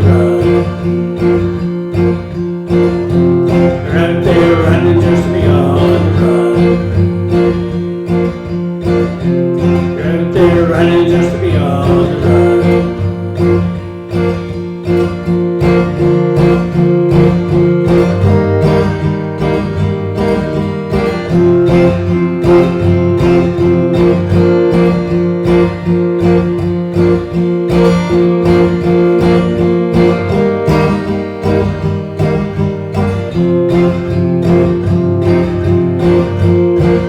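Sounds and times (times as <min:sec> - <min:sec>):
acoustic guitar strumming: 0:00.0 - 0:37.0.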